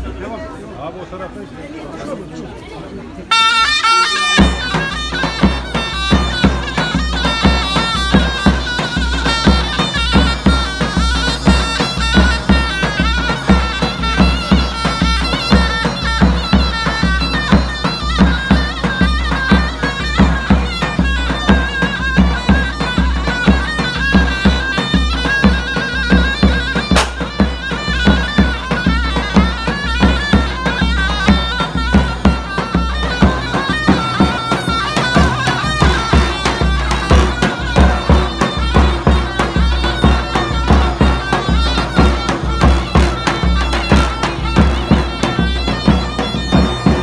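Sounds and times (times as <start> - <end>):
shrill wavering reed pipe melody: 3.3 - 47.0
big drum beat: 4.4 - 47.0.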